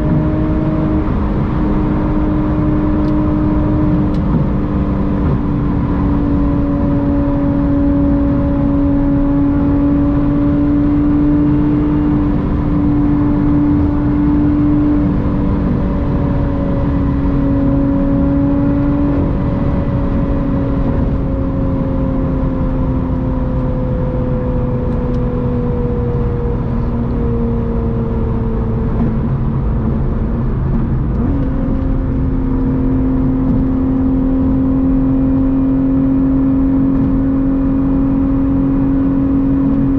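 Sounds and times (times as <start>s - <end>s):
car engine droning: 0.0s - 39.9s
road rush: 0.0s - 39.9s.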